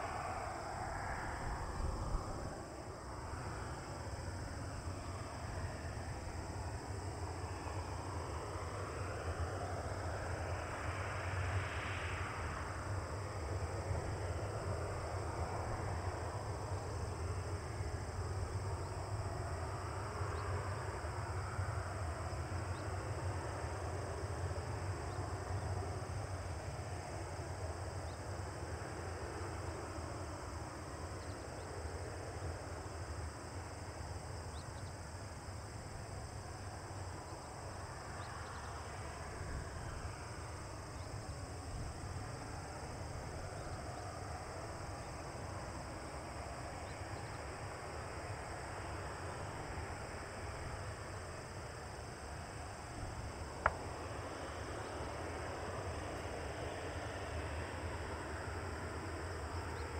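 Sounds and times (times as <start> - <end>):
distant jet engines idling: 0.0 - 59.9
high insect chorus: 0.0 - 59.9.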